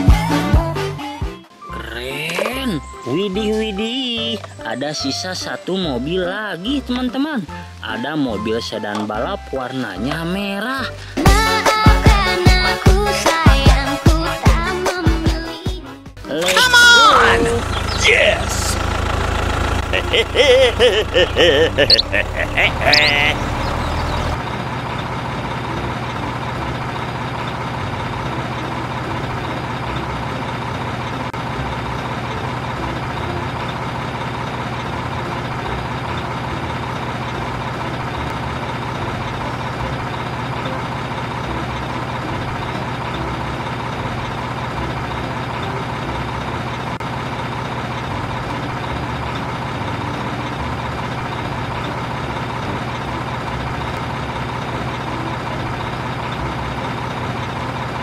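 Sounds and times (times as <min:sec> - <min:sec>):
truck engine idling: 0:10.2 - 0:58.0.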